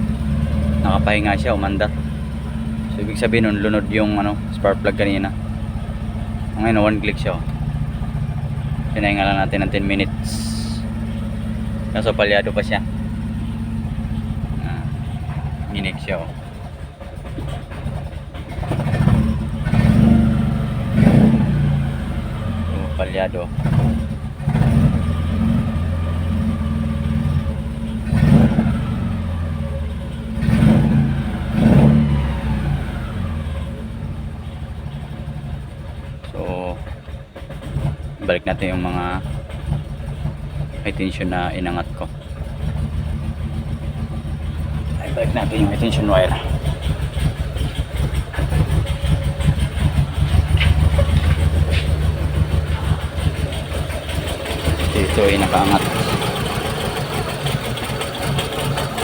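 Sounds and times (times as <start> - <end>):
engine idling roughly and misfiring: 0.0 - 59.0.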